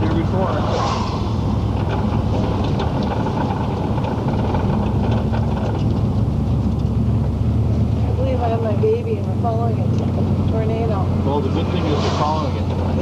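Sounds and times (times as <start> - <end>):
car engine hum and road noise: 0.0 - 13.0.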